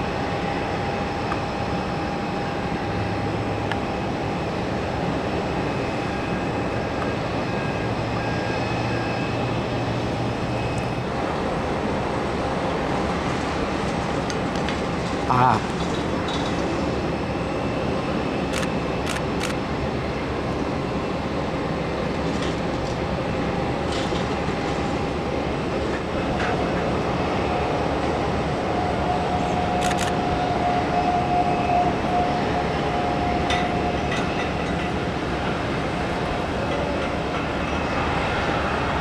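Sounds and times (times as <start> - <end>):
high engine whine: 0.0 - 39.0
jet engines rumbling: 0.0 - 39.0.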